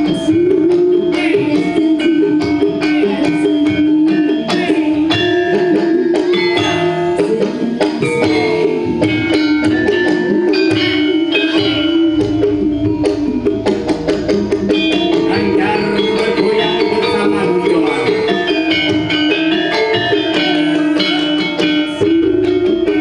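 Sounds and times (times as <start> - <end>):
woman singing: 0.0 - 13.8, 14.7 - 23.0
gamelan and drums: 0.0 - 23.0.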